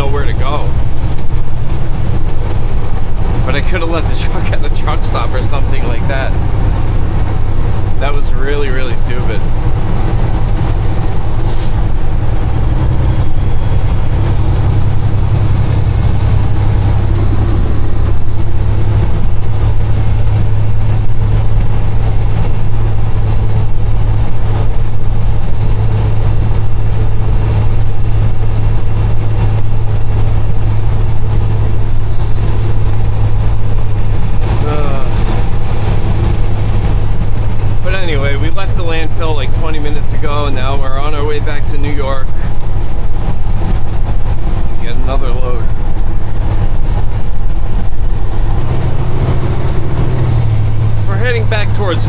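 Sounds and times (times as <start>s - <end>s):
truck diesel engine drone in cab: 0.0s - 52.0s.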